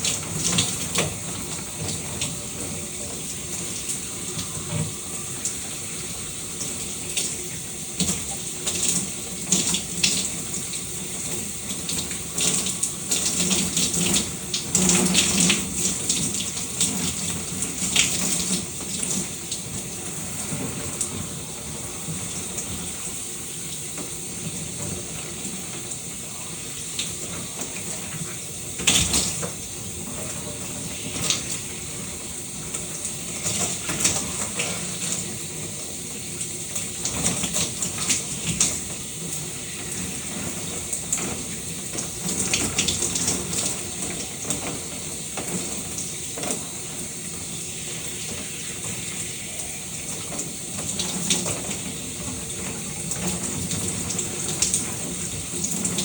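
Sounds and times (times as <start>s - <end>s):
shower water spray hissing: 0.0s - 56.0s.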